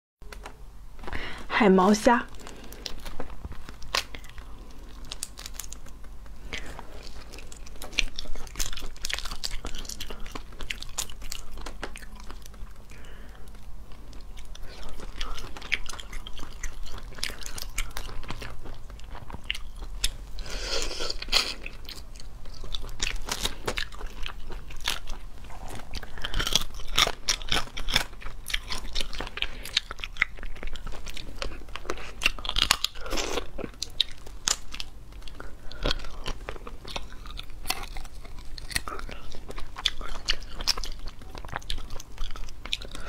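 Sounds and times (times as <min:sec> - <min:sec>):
crunchy biting and chewing: 0:02.3 - 0:43.0.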